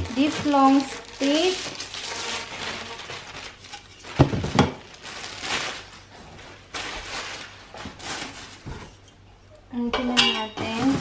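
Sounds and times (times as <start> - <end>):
rustling of plastic and packaging: 0.0 - 9.2, 10.4 - 11.0.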